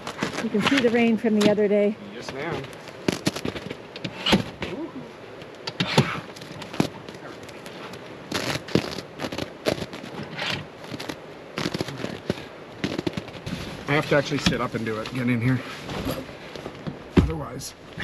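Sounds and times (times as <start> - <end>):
tent gear clicks and rustles: 0.0 - 1.1, 2.2 - 4.8, 5.5 - 17.1.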